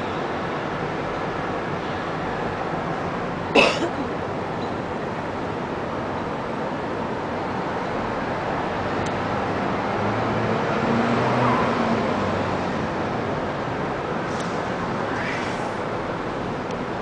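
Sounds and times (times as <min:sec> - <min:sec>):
city traffic noise: 0:00.0 - 0:17.0
vehicle engine hum: 0:00.0 - 0:17.0.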